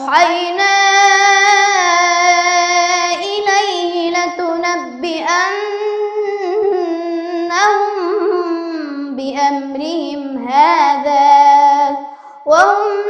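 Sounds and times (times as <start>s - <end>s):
girl reciting melodically: 0.0s - 13.0s.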